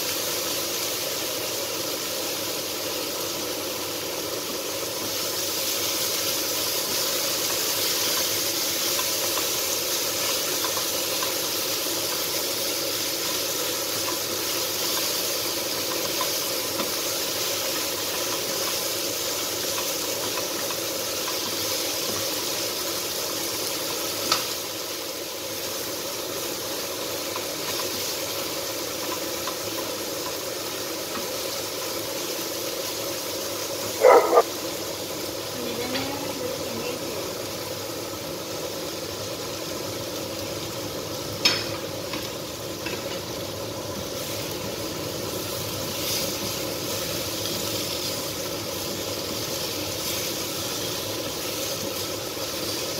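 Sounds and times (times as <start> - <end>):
meat sizzling in a pan: 0.0 - 52.9.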